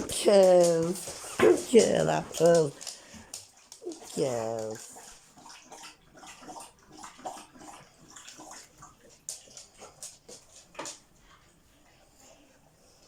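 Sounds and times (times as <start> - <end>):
dogs chewing treats: 0.0 - 11.1.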